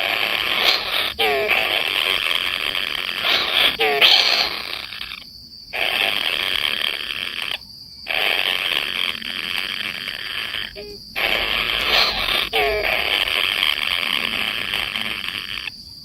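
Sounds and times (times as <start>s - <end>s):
high insect drone: 0.0s - 16.0s
short croaking calls: 0.0s - 16.0s.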